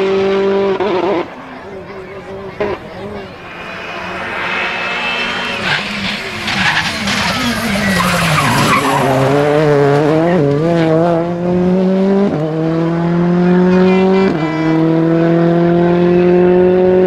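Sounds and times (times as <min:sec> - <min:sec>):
rally car engine accelerating: 0:00.0 - 0:17.0.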